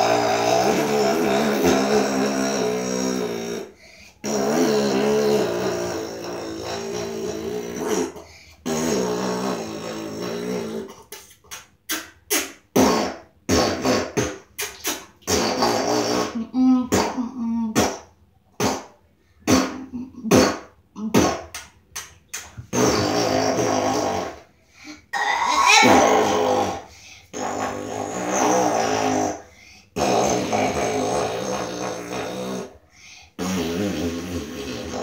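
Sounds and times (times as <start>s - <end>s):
fart-like buzzing noises: 0.0s - 11.2s, 12.2s - 21.6s, 22.4s - 24.5s, 25.1s - 32.8s, 33.4s - 35.0s.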